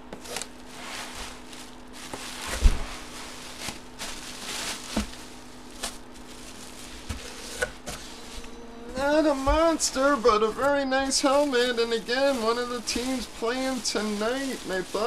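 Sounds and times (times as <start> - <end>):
bubble wrap rustling and crinkling: 0.0 - 15.0
cardboard scraping: 0.1 - 15.0.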